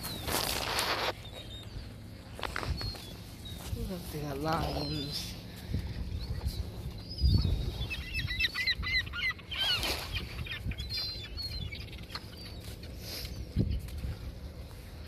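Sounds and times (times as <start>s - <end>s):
waterbirds calling: 0.0s - 15.0s.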